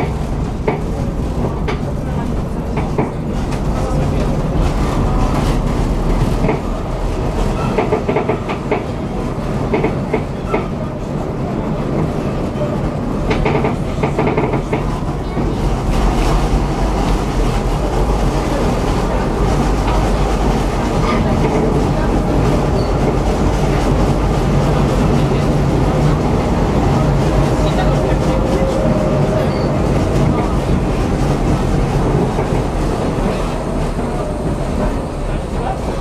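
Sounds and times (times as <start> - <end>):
tram clicks and knocks: 0.0 - 36.0
tram wheels rumbling on rail: 0.0 - 36.0.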